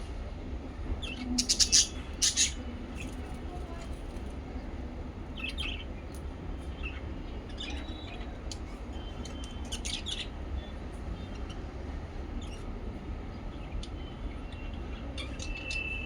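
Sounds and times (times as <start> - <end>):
pet birds chirping: 0.9 - 4.3, 5.3 - 16.0.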